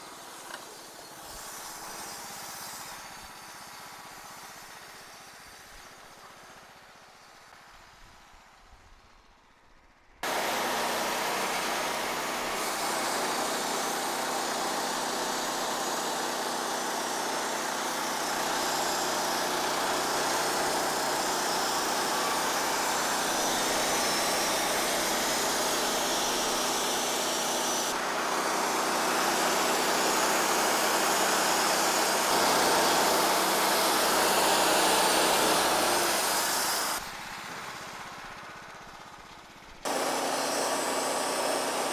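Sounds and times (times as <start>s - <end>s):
band sawmill cutting log: 0.0s - 6.7s, 10.2s - 41.9s.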